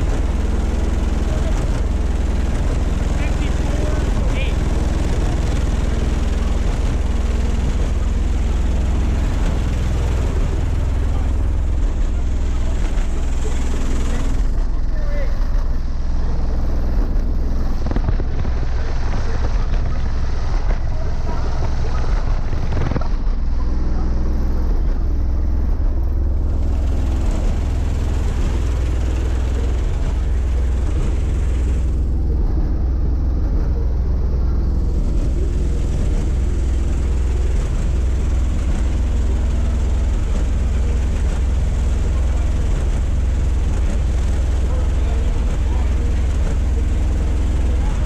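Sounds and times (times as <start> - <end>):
very deep subwoofer bass: 0.0 - 48.0.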